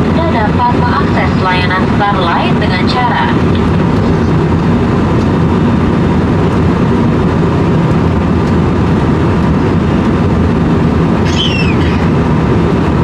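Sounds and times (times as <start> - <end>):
airplane cabin airflow and engine drone: 0.0 - 13.0.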